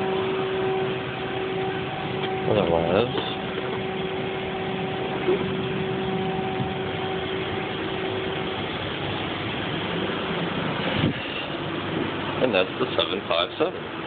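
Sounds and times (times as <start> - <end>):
low hum: 0.0 - 14.0
ventilation air rushing: 0.0 - 14.0.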